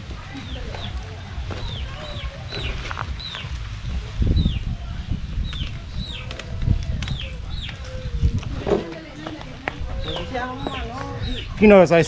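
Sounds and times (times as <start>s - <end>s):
low rumbles: 0.0s - 11.6s
bird chirping: 0.3s - 4.8s, 5.4s - 12.0s.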